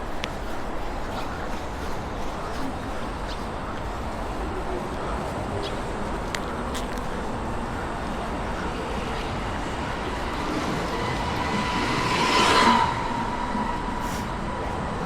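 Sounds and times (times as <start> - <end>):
road traffic roar: 0.1 - 15.0.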